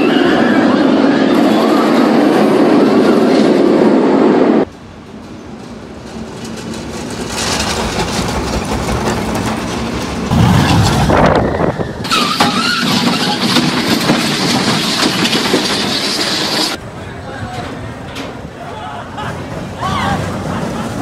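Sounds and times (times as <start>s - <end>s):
roller coaster rumble on steel track: 0.0s - 21.0s.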